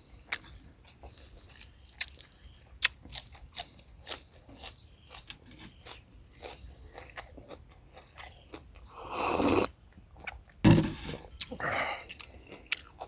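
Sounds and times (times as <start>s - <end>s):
high insect trill: 0.0s - 13.0s
person chewing: 0.3s - 10.4s, 11.2s - 13.0s.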